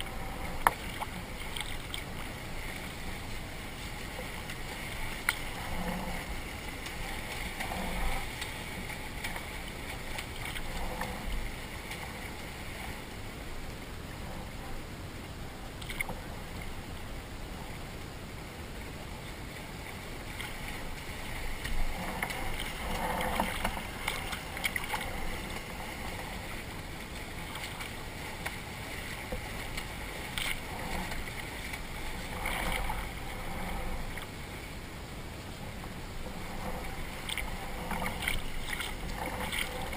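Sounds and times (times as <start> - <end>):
water lapping against a boat: 0.0 - 39.9.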